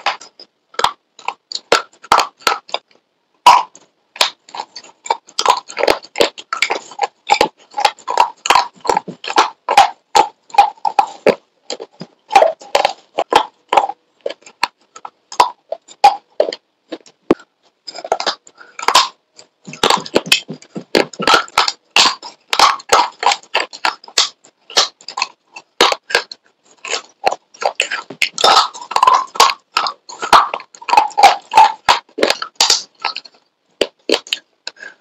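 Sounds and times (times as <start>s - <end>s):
brittle crunching while chewing: 3.5s - 19.2s, 19.8s - 35.0s.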